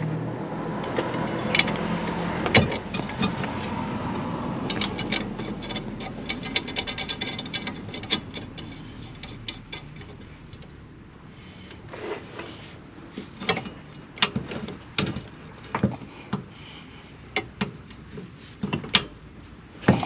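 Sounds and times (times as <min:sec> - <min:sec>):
hand tools clanking on metal: 0:00.7 - 0:10.8, 0:13.2 - 0:20.0.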